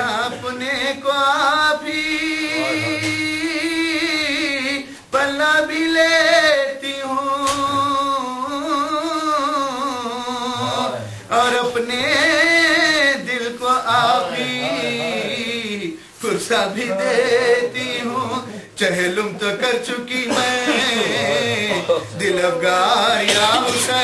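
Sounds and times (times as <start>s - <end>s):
man chanting unaccompanied: 0.0s - 24.0s.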